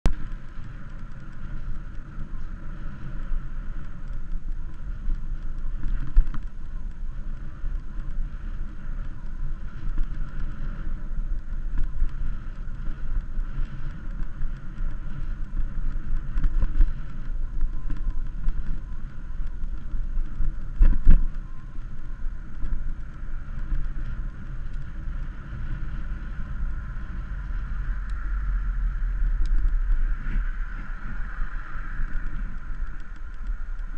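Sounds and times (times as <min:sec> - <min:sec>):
bicycle road rumble: 0:00.0 - 0:33.9
wind buffeting microphone: 0:00.0 - 0:33.9.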